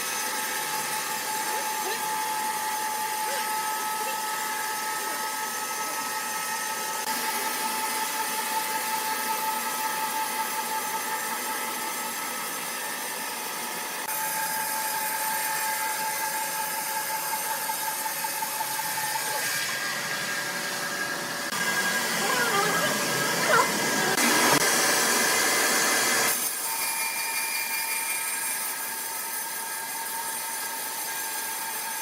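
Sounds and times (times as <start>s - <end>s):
sawmill machinery whine: 0.0s - 32.0s.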